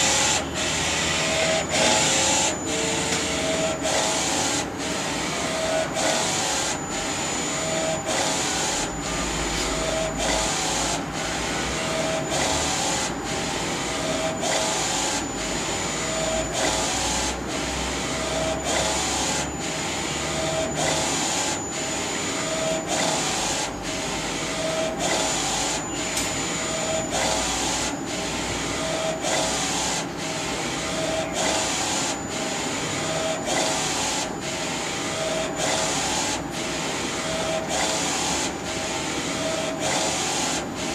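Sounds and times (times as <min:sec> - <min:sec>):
printer carriage whirring: 0:00.0 - 0:40.9.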